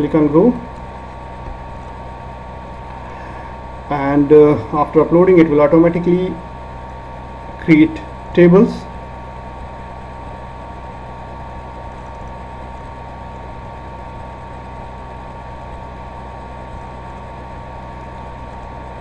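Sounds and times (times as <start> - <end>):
electrical hum and hiss: 0.0 - 19.0
high-pitched whine: 0.0 - 19.0.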